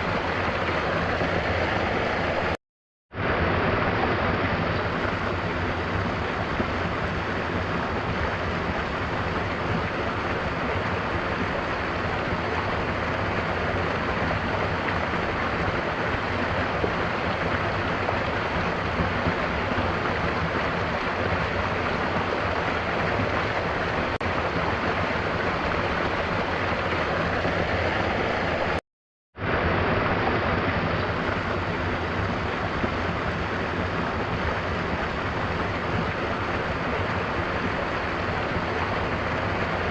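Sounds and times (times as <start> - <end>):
waterfall rushing: 0.0 - 2.6, 3.2 - 28.8, 29.4 - 39.9.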